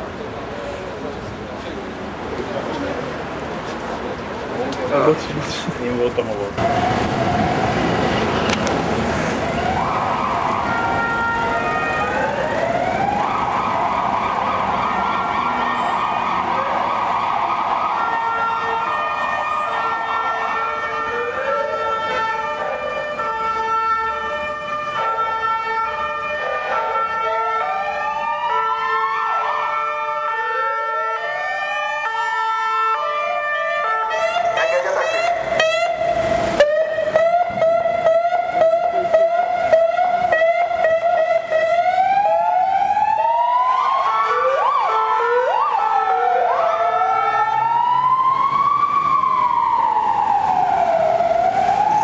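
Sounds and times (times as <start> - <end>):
police sirens: 0.0 - 52.0.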